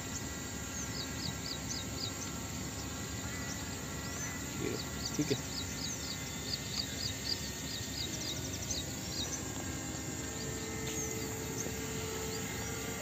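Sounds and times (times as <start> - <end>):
drone hum: 0.0 - 13.0
outdoor background hiss: 0.0 - 13.0
small bird chirping: 0.0 - 13.0.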